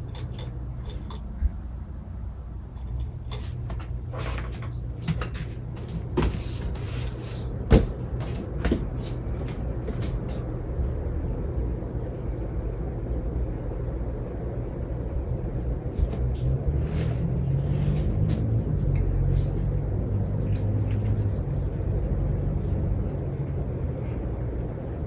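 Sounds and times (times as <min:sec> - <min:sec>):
ceiling fan humming: 0:00.0 - 0:25.0.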